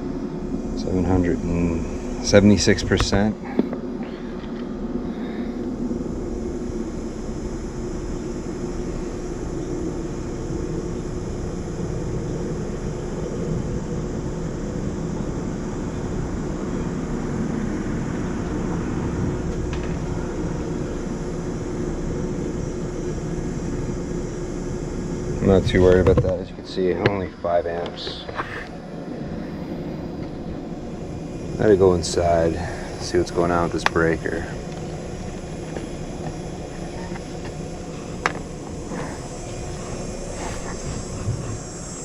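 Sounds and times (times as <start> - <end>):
air conditioner fan blowing: 0.0 - 42.0
compressor humming: 0.0 - 42.0.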